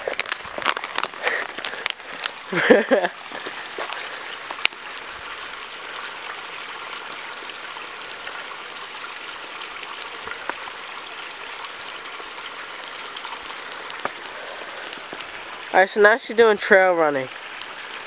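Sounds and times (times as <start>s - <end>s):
water hissing: 0.0s - 18.0s.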